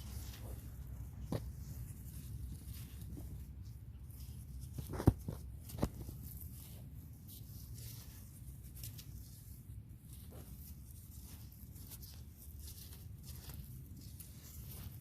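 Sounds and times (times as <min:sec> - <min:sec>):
digging in garden soil: 0:00.0 - 0:15.0
steady low rumble: 0:00.0 - 0:15.0.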